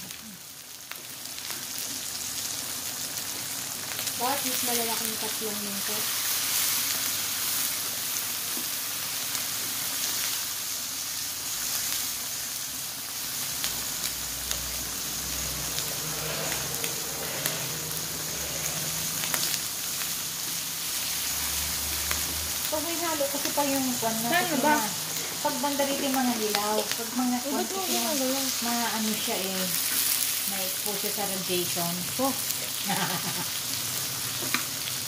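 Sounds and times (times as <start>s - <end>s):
meat sizzling in oil: 0.0s - 35.0s.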